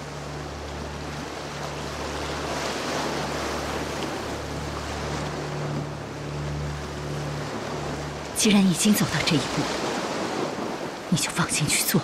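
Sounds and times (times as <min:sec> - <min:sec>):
low steady tones: 0:00.0 - 0:12.0
wind: 0:00.0 - 0:12.0.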